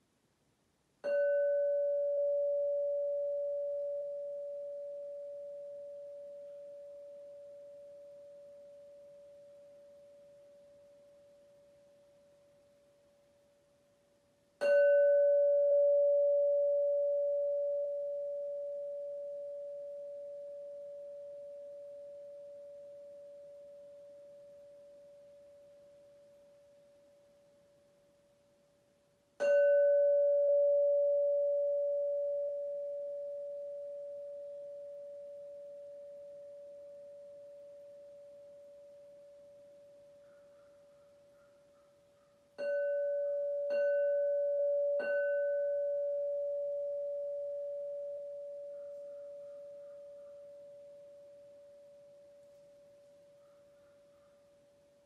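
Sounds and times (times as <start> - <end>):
crystal singing bowl ringing: 1.0 - 12.3, 14.6 - 27.1, 29.4 - 40.8, 42.5 - 53.4.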